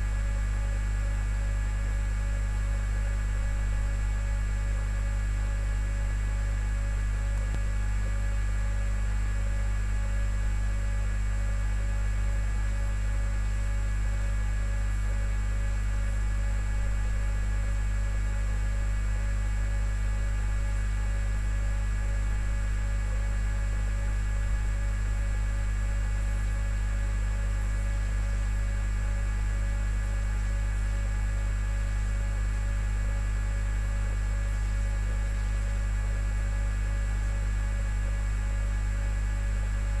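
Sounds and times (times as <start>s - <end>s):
loud electrical hum: 0.0s - 40.0s.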